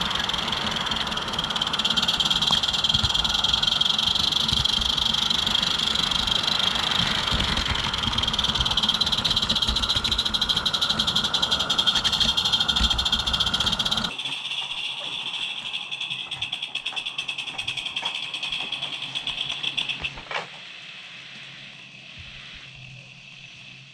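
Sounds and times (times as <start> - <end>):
steam hiss: 0.0 - 14.2, 18.8 - 23.9
wheels rattling on track: 0.0 - 20.3.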